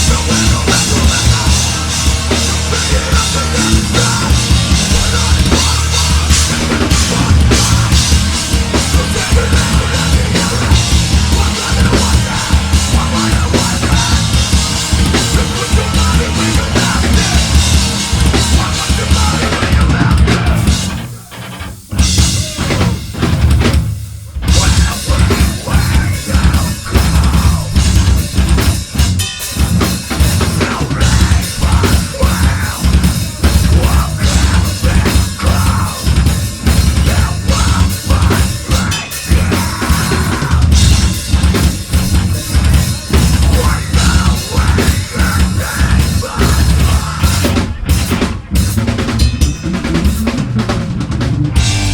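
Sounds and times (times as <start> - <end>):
distorted guitars: 0.0 - 51.9
heavy drumming: 0.0 - 51.9.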